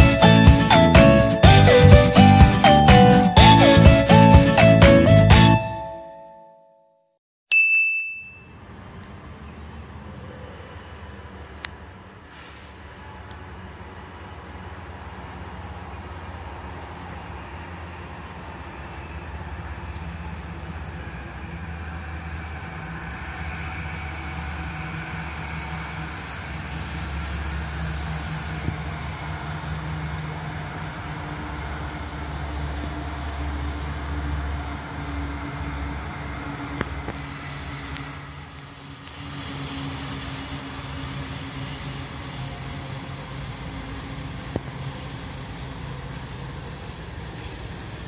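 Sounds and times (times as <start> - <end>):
rumble of rolling train cars: 0.0 - 6.0, 8.5 - 48.0
diesel locomotive engine drone: 0.0 - 6.4, 8.5 - 48.0.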